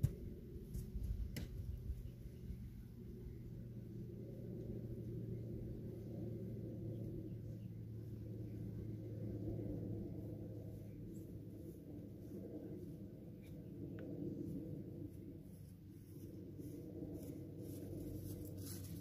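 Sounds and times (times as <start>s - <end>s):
faint rumble: 0.0s - 19.0s
steady low hum: 0.0s - 19.0s.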